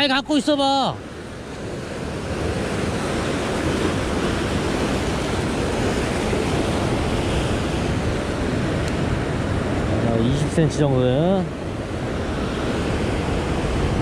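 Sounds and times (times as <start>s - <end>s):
surf breaking over rocks: 0.1s - 14.0s.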